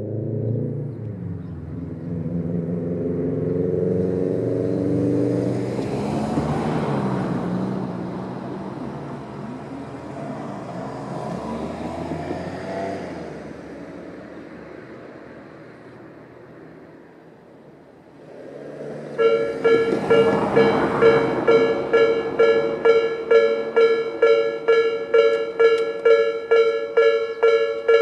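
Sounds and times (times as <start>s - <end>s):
vehicle engine passing: 0.0s - 17.0s, 18.0s - 28.0s.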